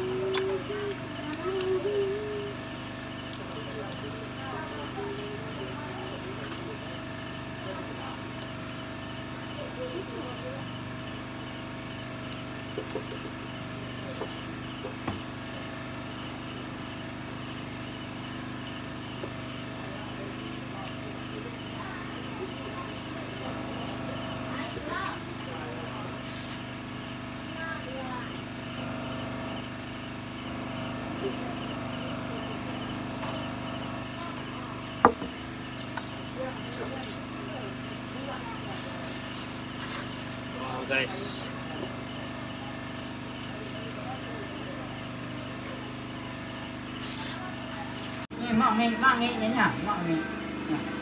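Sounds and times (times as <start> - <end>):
crickets chirring: 0.0 - 51.0.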